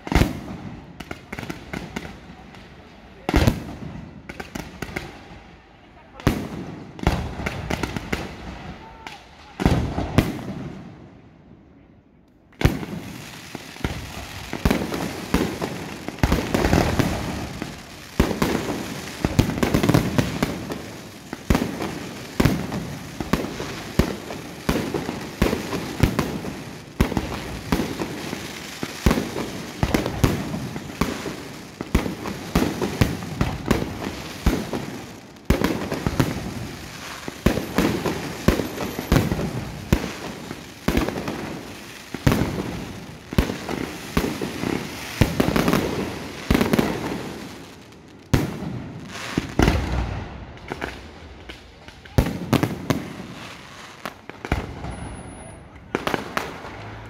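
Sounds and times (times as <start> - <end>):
fireworks bursting: 0.0 - 11.2, 12.5 - 57.0
fireworks crackling: 0.0 - 11.2, 12.2 - 57.0.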